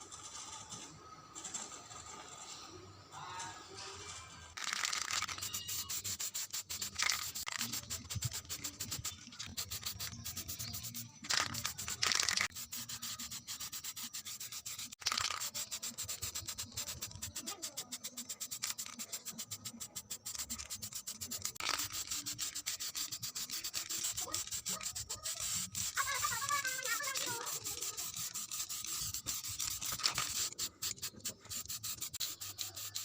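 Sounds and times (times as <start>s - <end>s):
sandpaper rubbing by hand: 4.6s - 33.0s.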